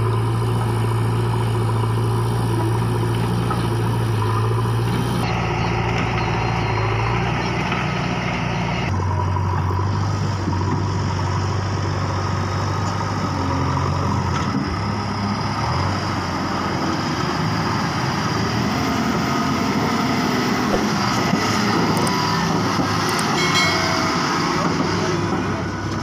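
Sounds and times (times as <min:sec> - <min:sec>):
diesel truck engine passing: 0:00.0 - 0:26.0.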